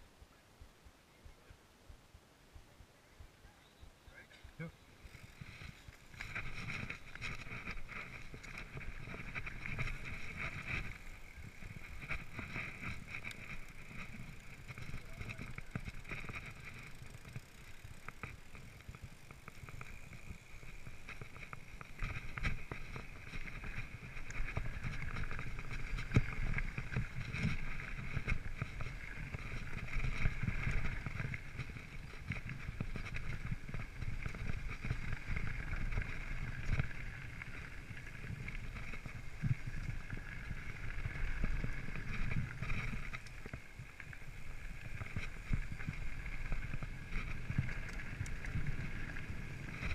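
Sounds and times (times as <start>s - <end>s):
bike tires rumbling on dirt: 0.0s - 49.9s
bike frame rattling: 5.0s - 49.9s.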